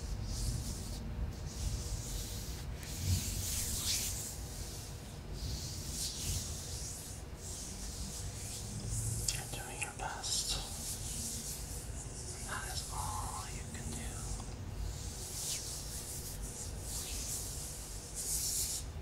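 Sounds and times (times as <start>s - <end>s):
soft rubbing swishes: 0.0s - 19.0s.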